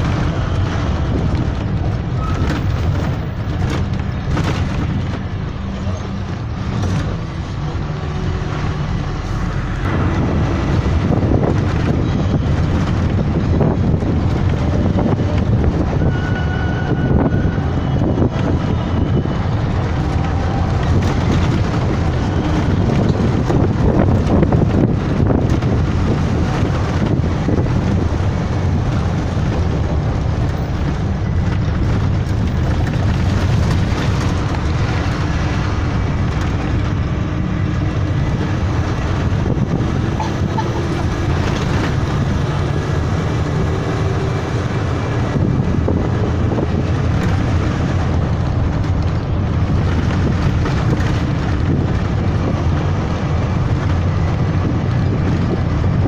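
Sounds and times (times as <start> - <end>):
bus engine and road rumble: 0.0 - 56.0
wind noise on microphone: 0.0 - 56.0.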